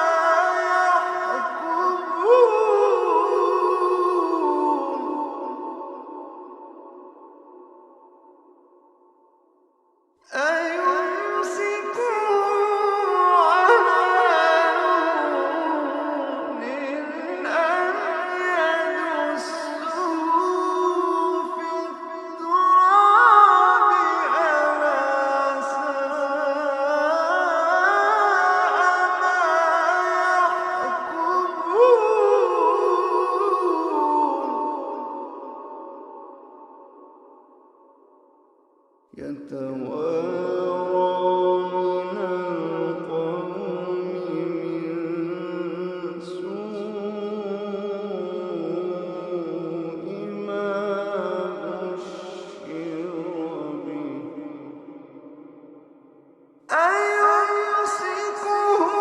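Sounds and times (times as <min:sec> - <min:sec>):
melodic recitation voice: 0:00.0 - 0:09.3, 0:10.3 - 0:59.0.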